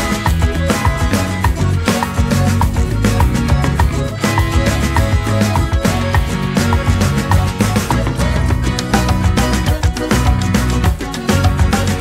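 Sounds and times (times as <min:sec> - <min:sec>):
salsa dance music with guitar: 0:00.0 - 0:12.0.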